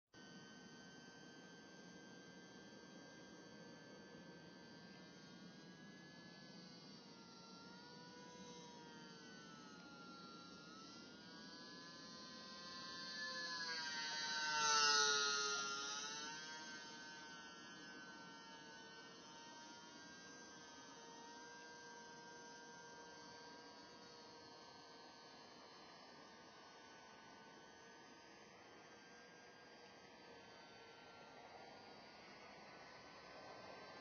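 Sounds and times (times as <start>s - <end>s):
model plane motor whine: 0.2s - 34.0s.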